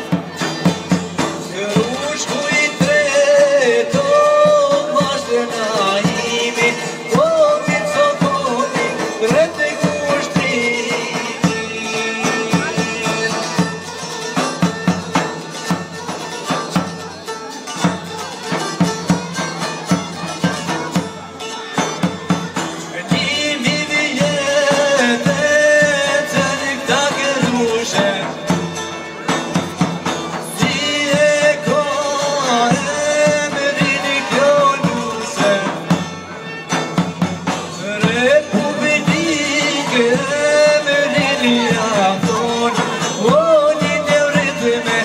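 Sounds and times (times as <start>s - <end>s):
folk band playing: 0.0s - 45.0s.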